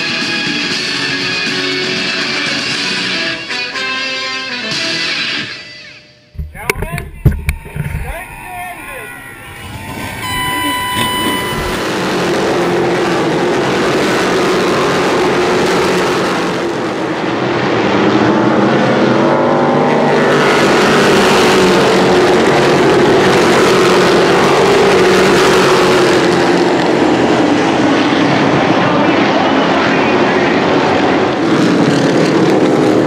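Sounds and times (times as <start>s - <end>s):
stock car engines racing: 0.0s - 3.5s, 6.5s - 33.0s.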